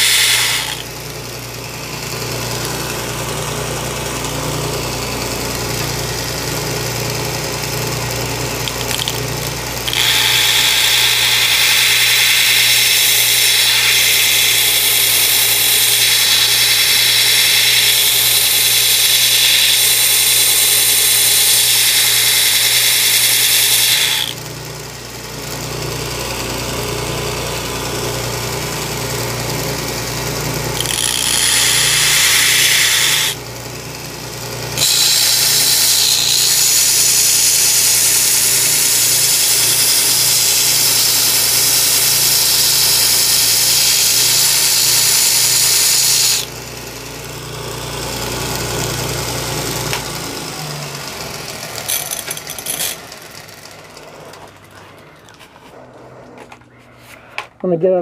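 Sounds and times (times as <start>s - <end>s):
belt grinder grinding metal: 0.0s - 3.2s, 4.2s - 25.0s, 28.2s - 33.7s, 34.4s - 46.9s, 47.8s - 54.8s
motor hum: 0.0s - 57.3s.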